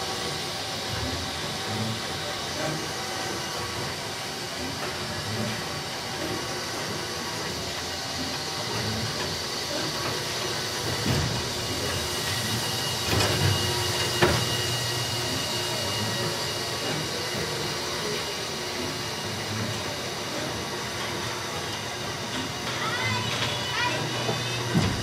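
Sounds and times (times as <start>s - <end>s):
roller coaster wheels rumbling: 0.1s - 25.0s.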